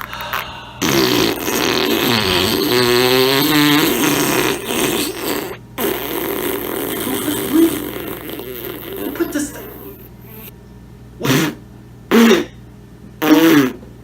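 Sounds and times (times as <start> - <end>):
whoopee cushion fart noise: 0.8 - 10.5, 11.2 - 12.5, 13.2 - 13.8.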